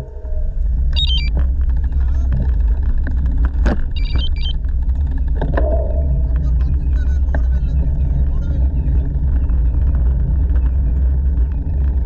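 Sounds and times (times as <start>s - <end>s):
bicycle tyre noise on path: 0.0s - 12.0s
wind buffeting microphone: 0.0s - 12.0s.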